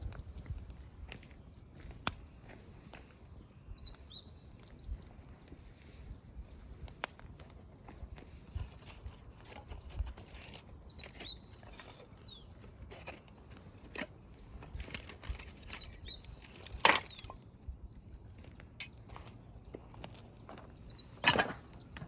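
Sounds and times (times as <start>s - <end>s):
birds chirping: 0.0s - 22.0s
fire crackling and popping: 0.0s - 22.0s.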